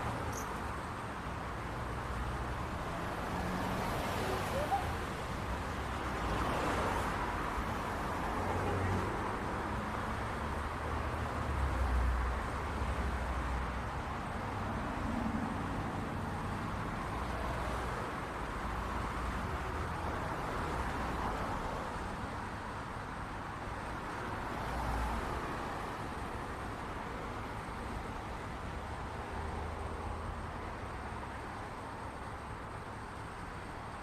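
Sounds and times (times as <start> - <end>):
passing cars: 0.0 - 34.0.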